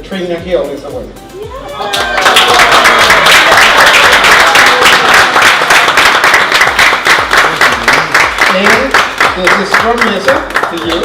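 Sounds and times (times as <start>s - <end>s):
audience applauding and cheering: 1.4s - 11.0s.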